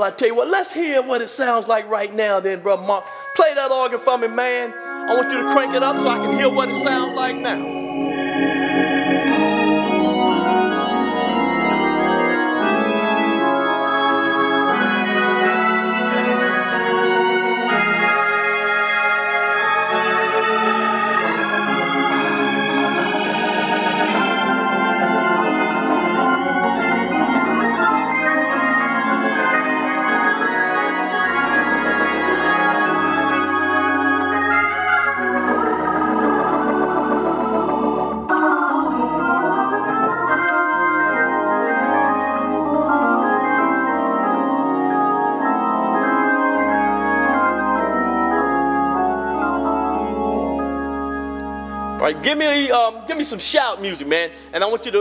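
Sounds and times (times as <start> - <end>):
organ playing full chords: 0.0 - 55.0.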